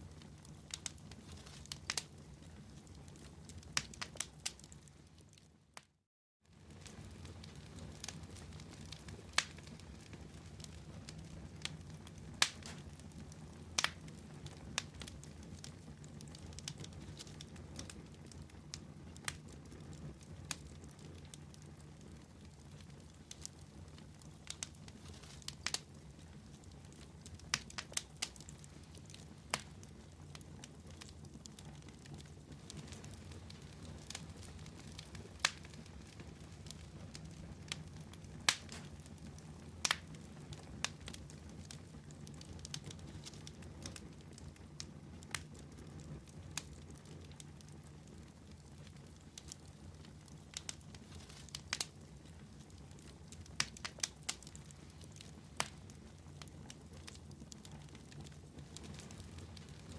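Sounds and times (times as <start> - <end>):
low fire rumble: 0.0 - 5.8, 6.4 - 59.9
campfire crackling and popping: 0.0 - 59.9.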